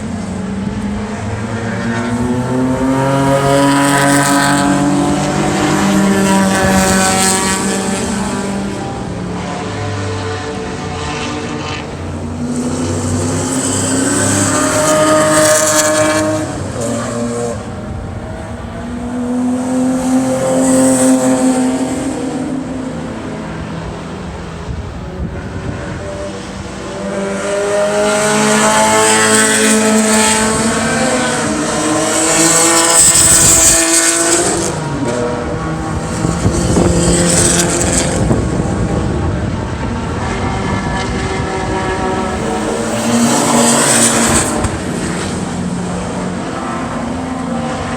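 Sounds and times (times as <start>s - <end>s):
race cars passing at high revs: 0.0s - 47.9s.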